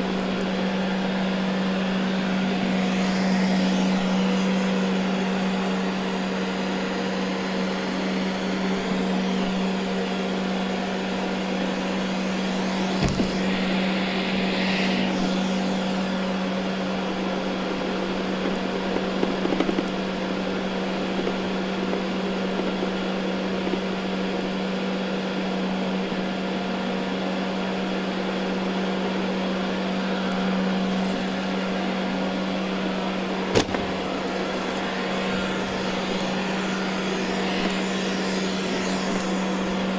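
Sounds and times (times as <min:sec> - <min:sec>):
robot vacuum humming on carpet: 0:00.0 - 0:39.9.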